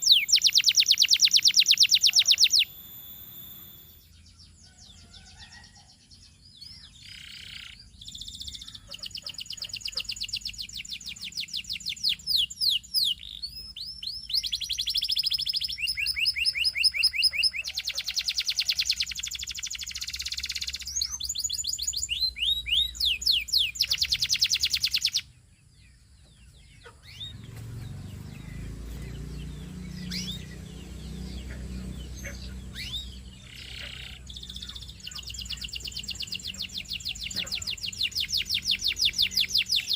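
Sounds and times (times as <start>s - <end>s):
canary singing trills: 0.0s - 39.9s
faint bird chirps: 0.0s - 39.9s.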